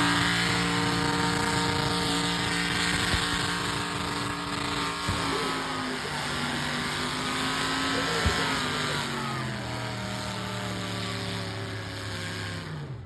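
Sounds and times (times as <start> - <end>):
tire squeal: 0.0 - 12.8
engine revving high: 0.0 - 13.0.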